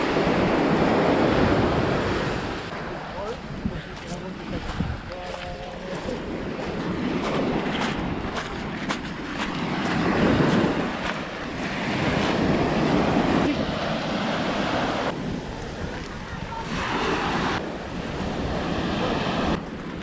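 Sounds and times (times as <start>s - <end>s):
sea surf washing on beach: 0.0s - 20.0s
wind buffeting microphone: 0.0s - 20.0s.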